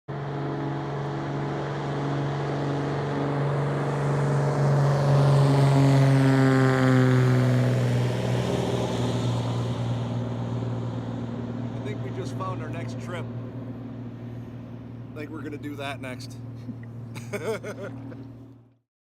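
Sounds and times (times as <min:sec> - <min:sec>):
motor passing by: 0:00.1 - 0:18.8.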